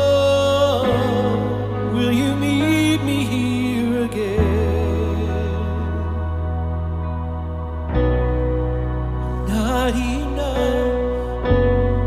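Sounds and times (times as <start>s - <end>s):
low keyboard tone: 0.0s - 12.0s
worship band playing slow song: 0.0s - 12.0s.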